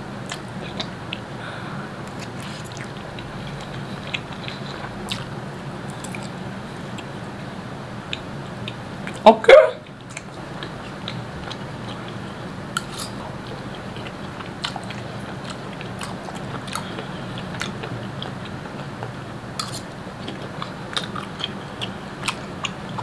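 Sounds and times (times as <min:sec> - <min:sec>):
low steady hum: 0:00.0 - 0:23.0
person chewing spaghetti: 0:00.2 - 0:23.0.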